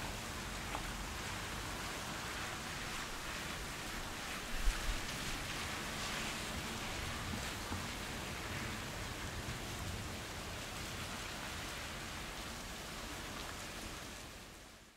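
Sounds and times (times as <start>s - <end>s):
rain falling: 0.0s - 14.9s.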